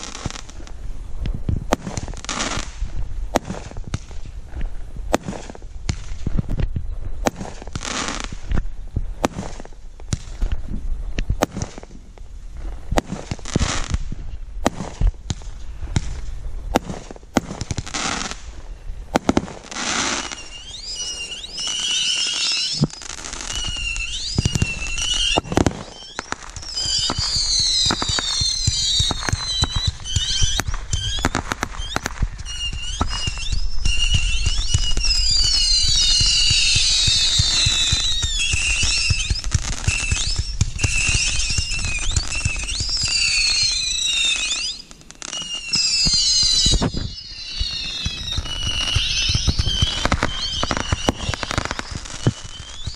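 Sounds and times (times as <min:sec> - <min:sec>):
whistling fireworks shrieking: 0:00.0 - 0:00.8, 0:01.7 - 0:04.3, 0:05.1 - 0:08.6, 0:12.9 - 0:52.9
fireworks bangs and hisses: 0:00.0 - 0:52.9.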